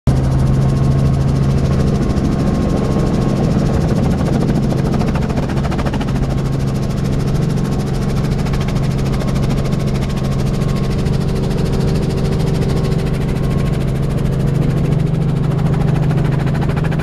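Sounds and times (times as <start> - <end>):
helicopter engine and rotor drone: 0.1 - 17.0.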